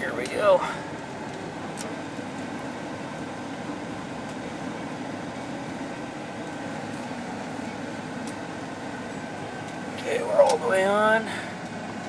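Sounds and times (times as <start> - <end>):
diesel pickup truck engine: 0.0 - 12.0.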